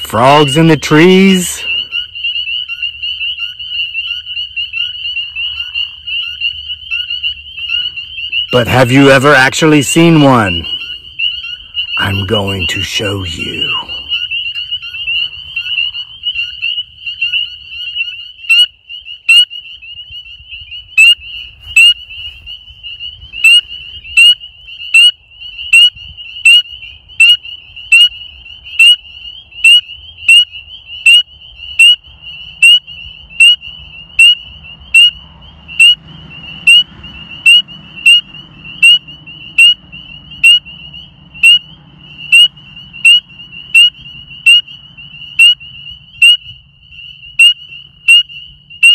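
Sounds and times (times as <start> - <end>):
chorus of spring peepers: 0.0 - 48.9
spring peeper rising peeps: 0.0 - 48.9.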